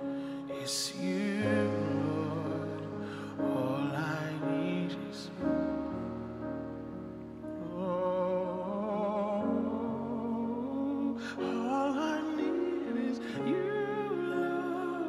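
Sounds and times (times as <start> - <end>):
man singing with vibrato: 0.0 - 5.8, 7.6 - 15.0
held keyboard chords: 0.0 - 15.0.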